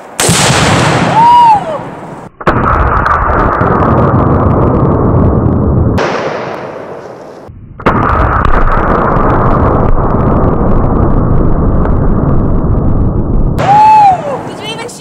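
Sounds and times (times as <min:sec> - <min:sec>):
rifle fire: 0:00.0 - 0:13.7
exploding target detonating: 0:00.0 - 0:14.5.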